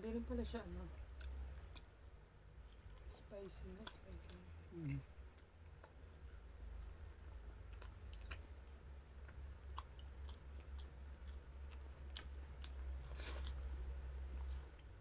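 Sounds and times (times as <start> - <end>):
steady low hum: 0.0 - 15.0
person chewing food: 1.0 - 15.0.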